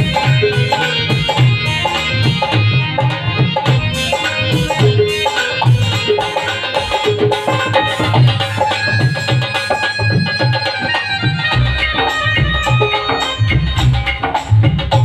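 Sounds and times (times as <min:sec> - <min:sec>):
sustained melodic lines: 0:00.0 - 0:13.8
hand drum beat: 0:00.0 - 0:15.0.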